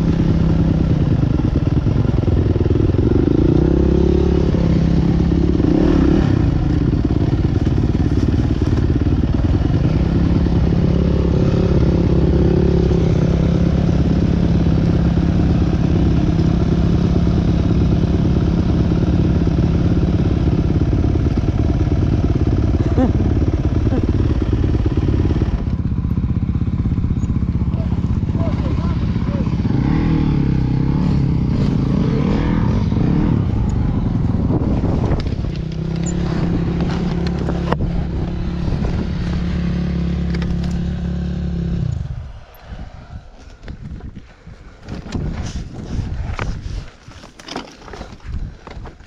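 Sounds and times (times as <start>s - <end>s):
motorcycle engines revving: 0.0s - 46.7s.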